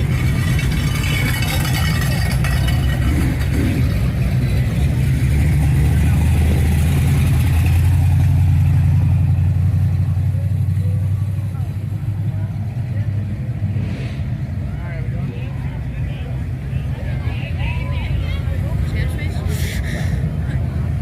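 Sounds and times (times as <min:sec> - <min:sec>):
car engine running low: 0:00.0 - 0:21.0.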